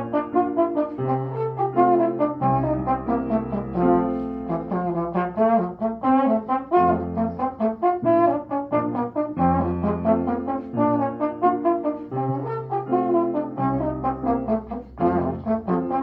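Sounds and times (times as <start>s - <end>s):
brass instruments playing: 0.0s - 16.0s.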